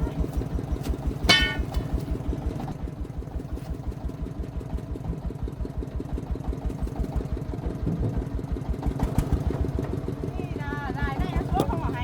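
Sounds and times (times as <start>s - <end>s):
single-cylinder diesel engine running: 0.0s - 12.0s.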